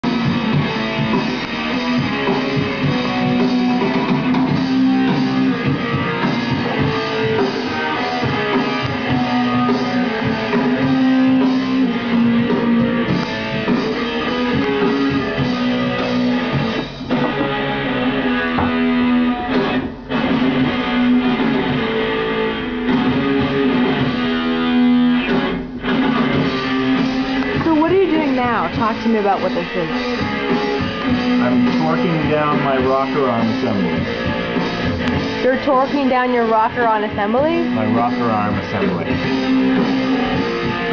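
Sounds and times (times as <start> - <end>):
rock music with guitars and drums: 0.0 - 40.9.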